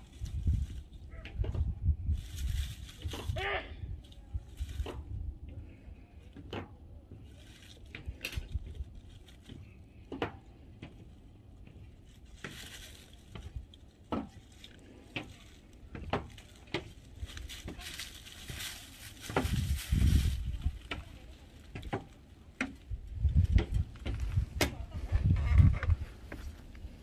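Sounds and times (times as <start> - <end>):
dry leaves crackling and rustling: 0.0 - 6.4, 7.0 - 27.0.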